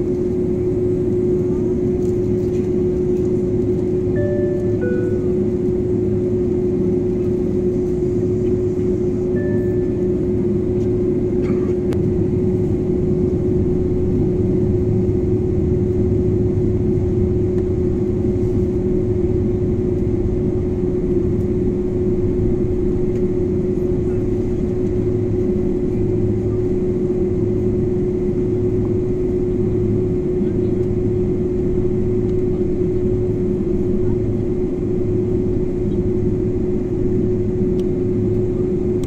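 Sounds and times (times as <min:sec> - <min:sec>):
jet engines rumbling and whining: 0:00.0 - 0:39.0.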